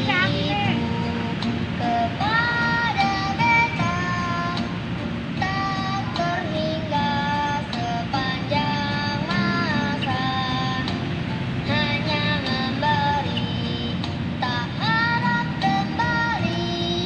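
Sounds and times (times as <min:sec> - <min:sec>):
song with high sung melody: 0:00.0 - 0:17.0
steady musical backing: 0:00.0 - 0:17.0.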